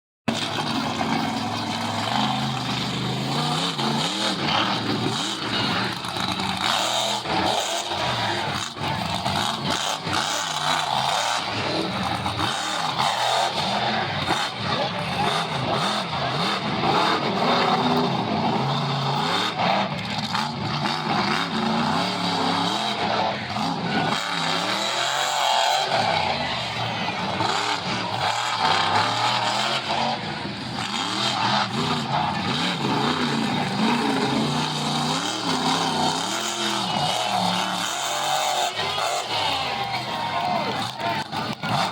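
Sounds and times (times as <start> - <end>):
monster truck engine revving: 0.3 - 41.9.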